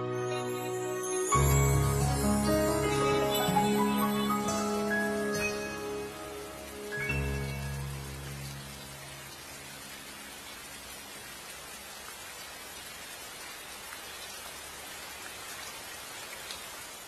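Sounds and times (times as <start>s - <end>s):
steady rain falling: 1.3s - 17.0s.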